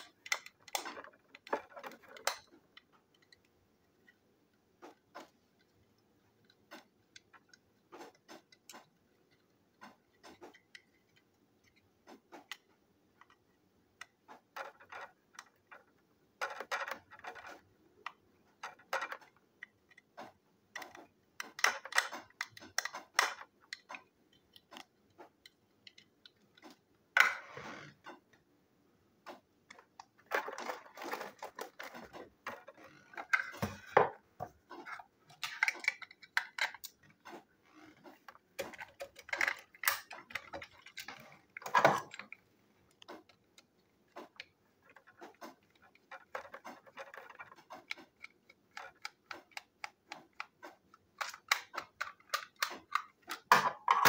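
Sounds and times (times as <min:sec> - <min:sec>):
plastic toy trains clicking and rattling: 0:00.0 - 0:28.4, 0:29.3 - 0:54.0.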